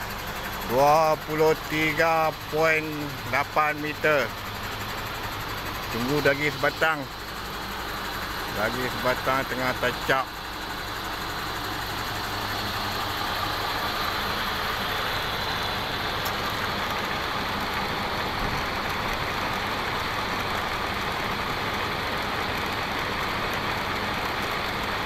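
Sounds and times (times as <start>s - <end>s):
heavy engine idling: 0.0s - 25.0s.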